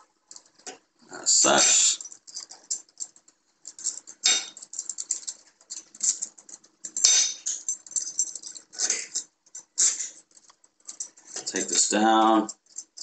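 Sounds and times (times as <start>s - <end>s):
metal parts clattering: 0.3s - 13.0s
small metal parts clicking: 0.3s - 13.0s.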